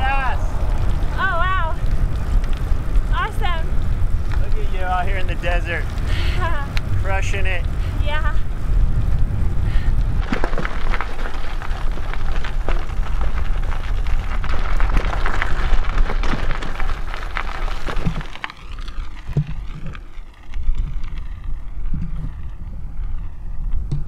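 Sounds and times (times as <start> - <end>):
dense crackle: 0.0 - 24.0
wind buffeting microphone: 0.0 - 24.0.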